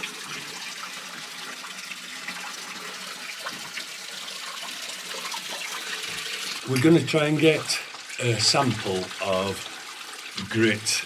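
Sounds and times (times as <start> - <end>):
small waterfall splashing: 0.0 - 11.0.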